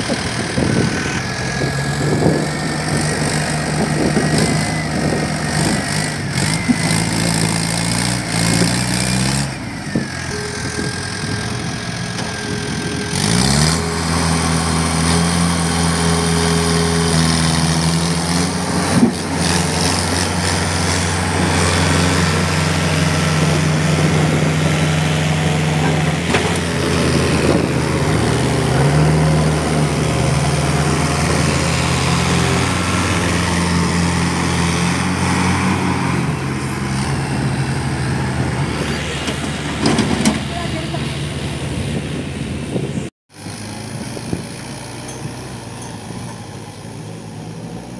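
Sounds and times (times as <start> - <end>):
tractor diesel engine running hard: 0.0 - 47.9.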